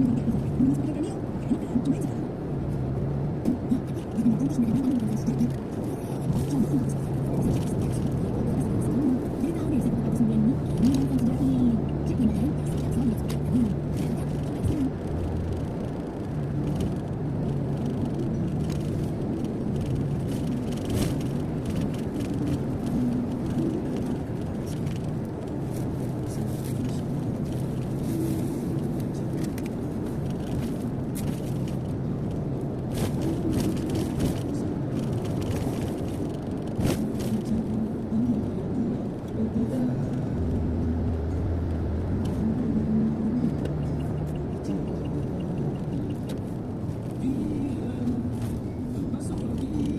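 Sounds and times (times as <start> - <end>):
car interior road drone: 0.0 - 49.9.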